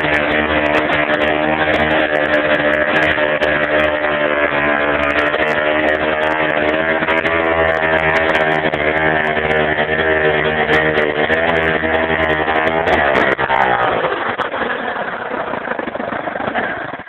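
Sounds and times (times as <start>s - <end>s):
saw petrol engine running: 0.0s - 17.0s.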